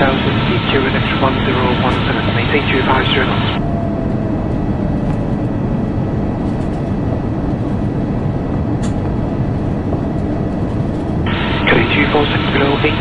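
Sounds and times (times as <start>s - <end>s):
airliner cabin engine roar: 0.0s - 13.0s.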